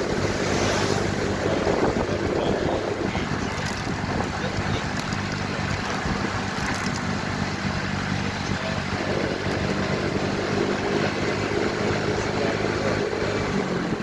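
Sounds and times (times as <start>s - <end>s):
road and wind noise: 0.0s - 14.0s
motorcycle engine running: 1.0s - 14.0s.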